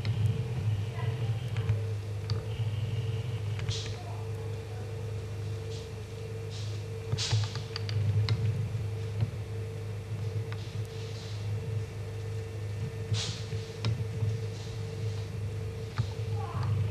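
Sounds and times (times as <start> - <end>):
low electrical hum: 0.0 - 16.9.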